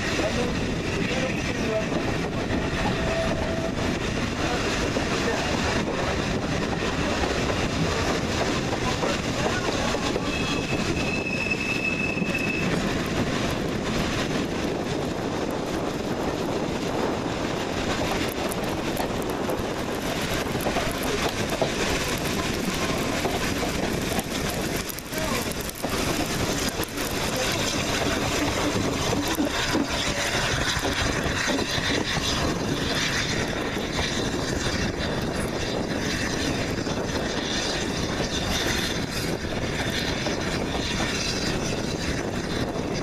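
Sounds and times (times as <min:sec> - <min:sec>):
steam locomotive running: 0:00.0 - 0:43.0
train wheels on rails: 0:00.0 - 0:43.0.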